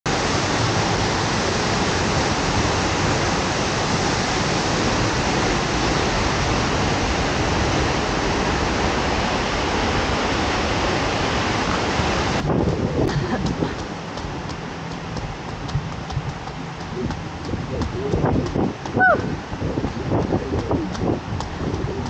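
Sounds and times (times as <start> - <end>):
waterfall rushing: 0.1 - 22.0.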